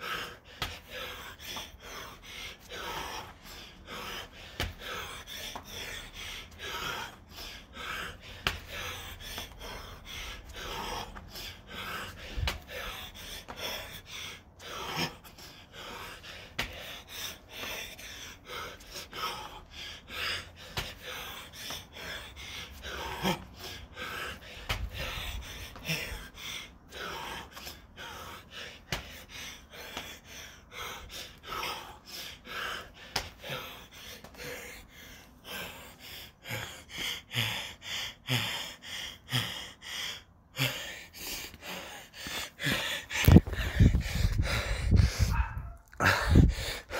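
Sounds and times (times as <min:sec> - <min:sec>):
man breathing heavily and gasping: 0:00.0 - 0:46.9.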